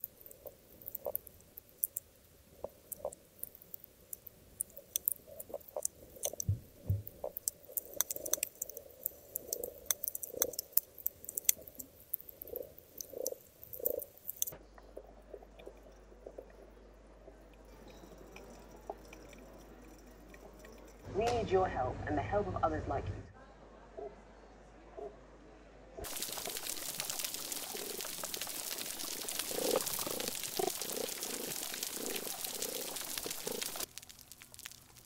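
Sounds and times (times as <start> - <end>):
underwater crackle of clicks: 0.0 - 21.0, 26.0 - 35.0.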